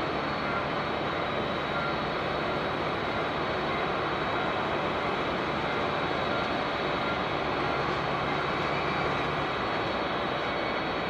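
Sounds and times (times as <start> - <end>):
faint high whine: 0.0 - 11.0
jet engines running: 0.0 - 11.0.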